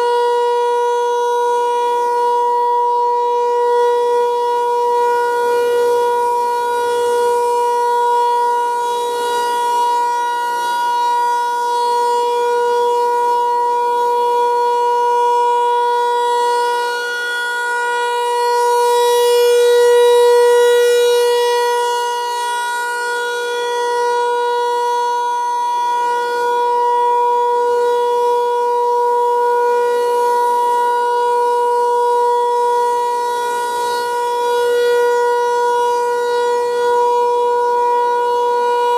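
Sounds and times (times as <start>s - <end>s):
outdoor warning siren steady tone: 0.0s - 38.9s.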